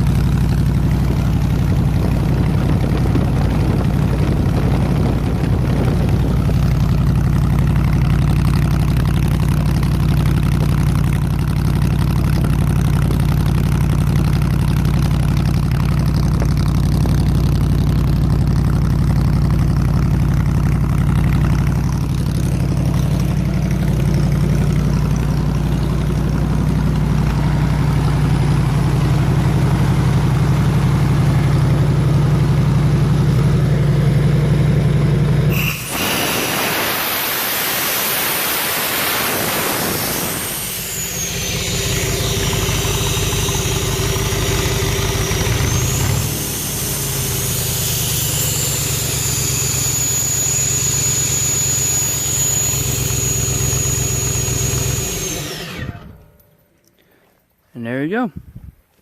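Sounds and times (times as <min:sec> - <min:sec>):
gasoline engine idling: 0:00.0 - 0:35.7, 0:39.0 - 0:57.2.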